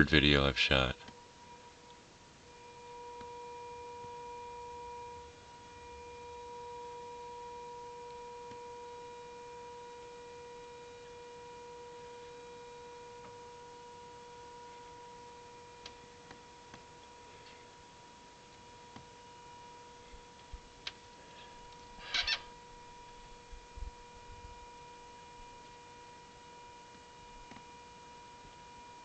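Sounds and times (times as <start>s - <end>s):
droning hum: 0.0s - 29.0s.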